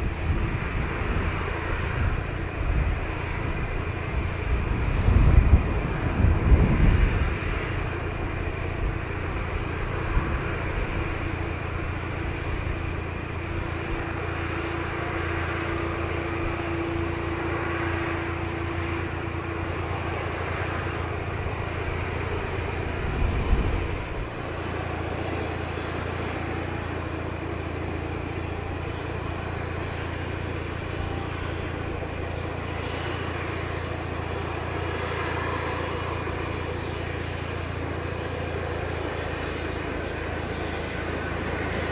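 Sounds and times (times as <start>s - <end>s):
faint high whine: 0.0s - 41.9s
jet engines running: 0.0s - 41.9s.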